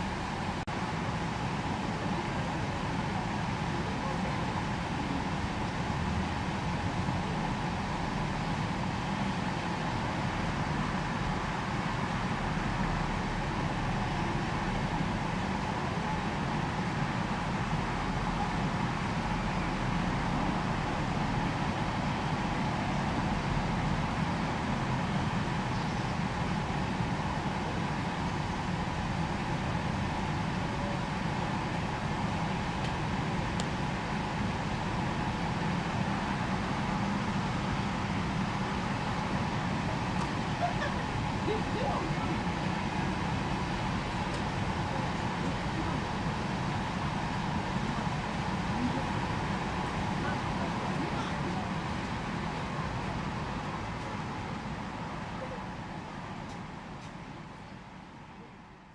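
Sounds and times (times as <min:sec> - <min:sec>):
low rumble with hiss: 0:00.0 - 0:58.9.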